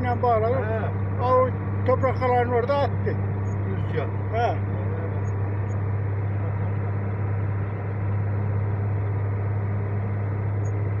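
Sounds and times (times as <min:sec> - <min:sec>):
tyre and road noise: 0:00.0 - 0:11.0
vehicle engine droning: 0:00.0 - 0:11.0.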